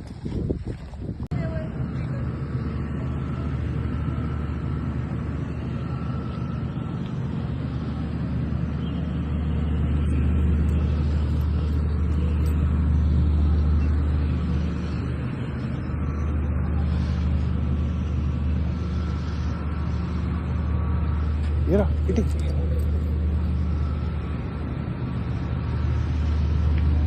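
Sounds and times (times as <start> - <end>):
motor vehicle engine rumble: 0.0 - 27.0.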